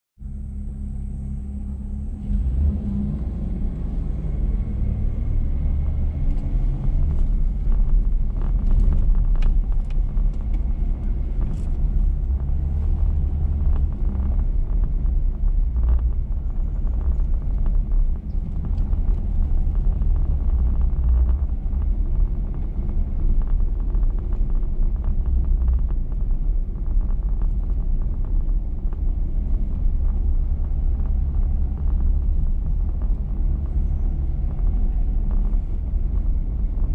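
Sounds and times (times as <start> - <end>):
pickup engine and tyres rumbling: 0.2 - 36.9.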